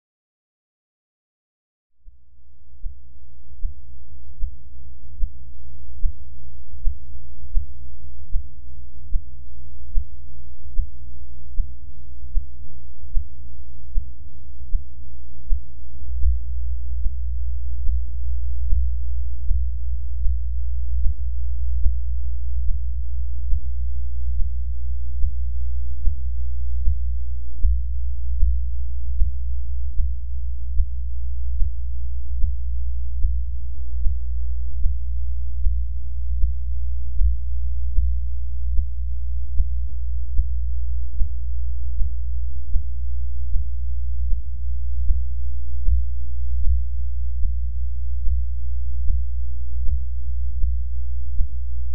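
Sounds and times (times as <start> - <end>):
faint hum: 2.0 - 51.9
deep heartbeat pulses: 3.6 - 51.9.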